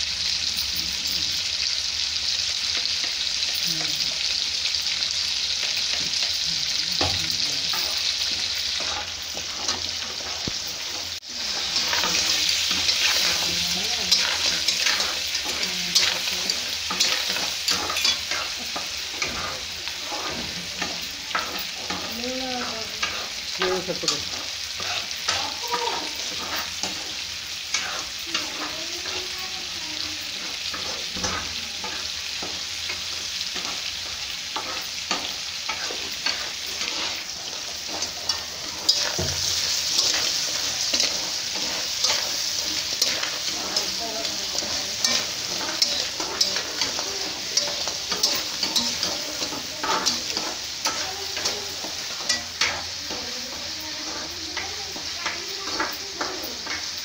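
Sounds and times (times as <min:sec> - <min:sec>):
crab sizzling in a wok: 0:00.0 - 0:57.0
metal spatula scraping a pan: 0:06.9 - 0:57.0.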